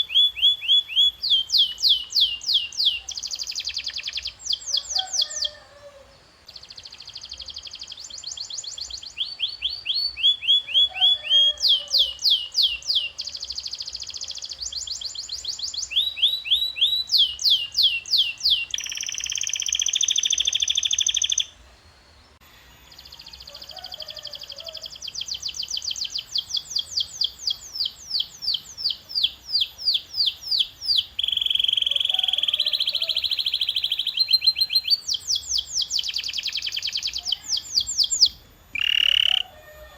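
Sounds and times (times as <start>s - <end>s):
canary singing: 0.0s - 21.6s, 22.8s - 39.9s.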